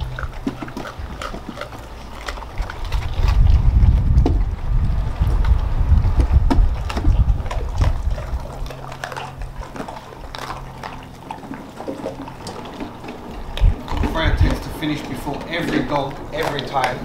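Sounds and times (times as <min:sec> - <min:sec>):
dogs chewing and slurping: 0:00.0 - 0:17.0
frozen meat and bone crunching: 0:00.0 - 0:17.0
low steady hum: 0:00.0 - 0:17.0
wind rumble on microphone: 0:00.0 - 0:17.0.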